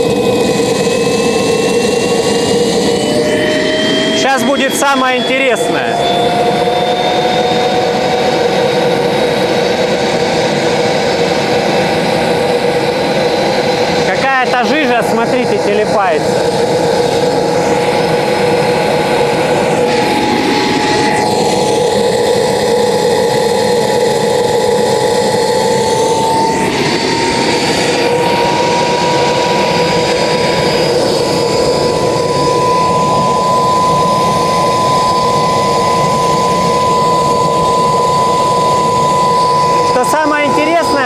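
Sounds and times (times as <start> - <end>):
gas turbine whining and roaring: 0.0 - 41.0.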